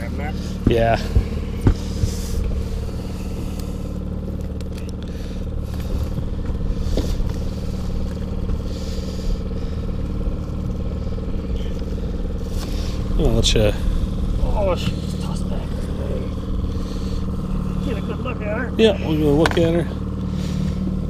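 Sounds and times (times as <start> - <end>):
gear scraping and clattering: 0.0 - 21.0
outboard motor humming: 0.0 - 21.0.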